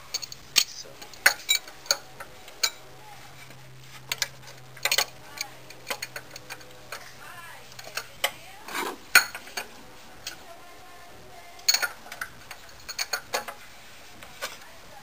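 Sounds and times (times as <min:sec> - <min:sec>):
hand tools clicking and clanking: 0:00.0 - 0:10.6, 0:11.5 - 0:13.6.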